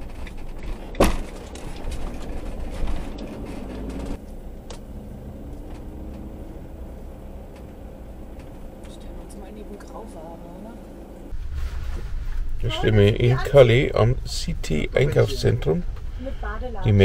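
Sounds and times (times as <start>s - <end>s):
engine and road rumble: 0.0s - 17.0s.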